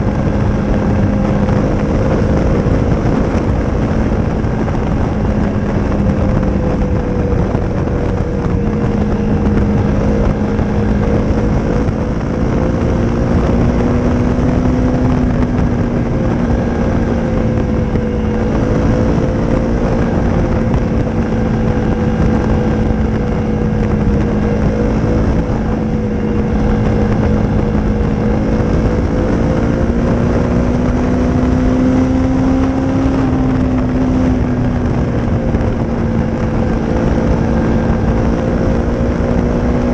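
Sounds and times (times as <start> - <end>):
dense low rumble: 0.0 - 39.9
motorcycle engine running: 0.0 - 39.9.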